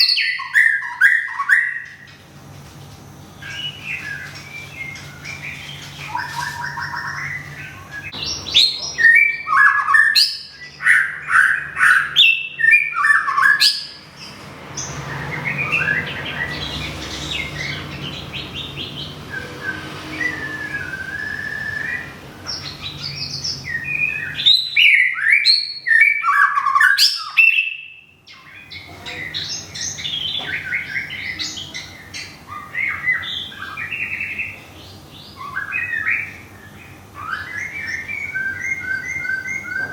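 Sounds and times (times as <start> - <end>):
bird singing whistled phrases: 0.0 - 2.1, 3.4 - 14.0, 18.6 - 34.6, 35.2 - 39.9.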